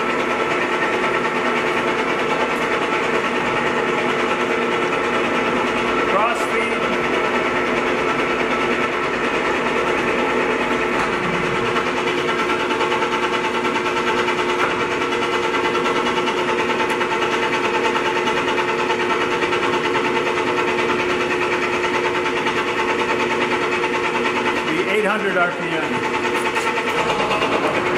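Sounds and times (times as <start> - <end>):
lathe whining: 0.0 - 27.9.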